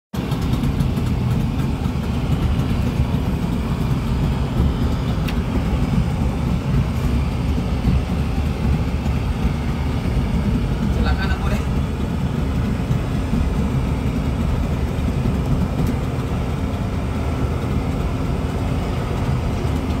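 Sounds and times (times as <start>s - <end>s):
boat engine running: 0.2s - 20.0s.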